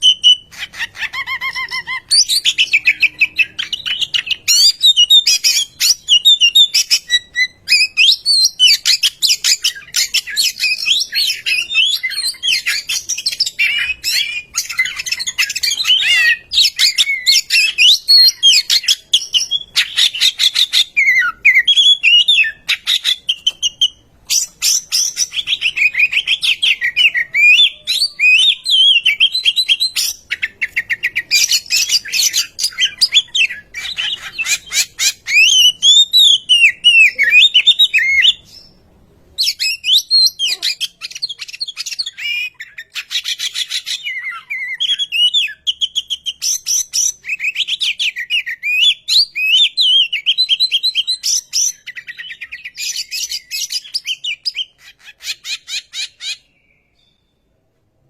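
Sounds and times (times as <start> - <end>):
bird singing whistles and trills: 0.0 - 38.8, 39.4 - 57.4.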